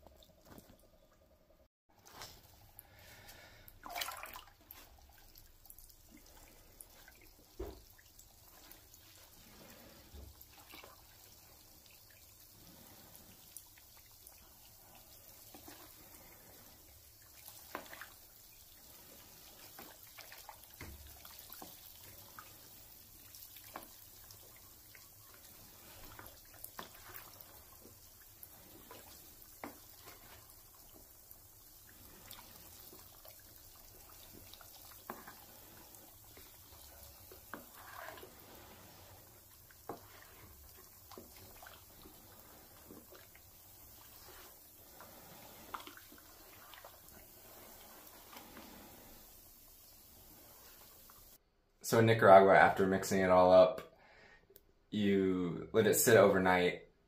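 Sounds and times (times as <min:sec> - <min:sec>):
liquid sloshing in a bucket: 0:01.9 - 0:49.5.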